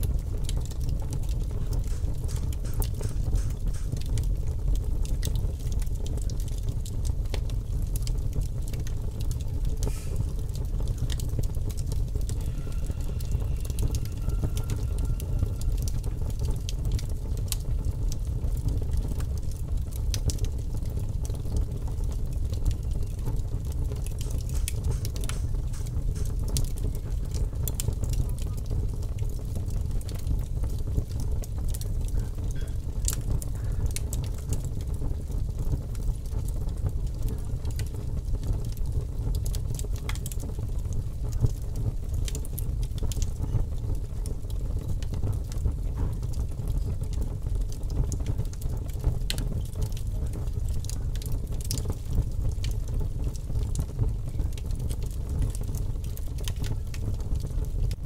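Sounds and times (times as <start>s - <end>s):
fire crackling and popping: 0.0s - 58.0s
low background rumble: 0.0s - 58.0s.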